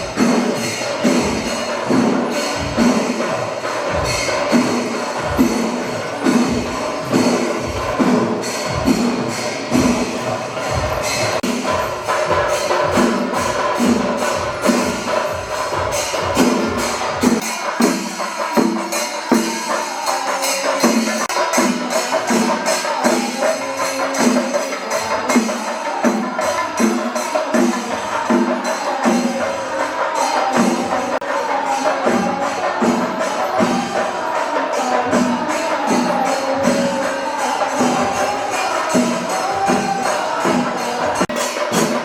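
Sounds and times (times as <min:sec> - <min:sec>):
drums and clashing cymbals: 0:00.0 - 0:42.0.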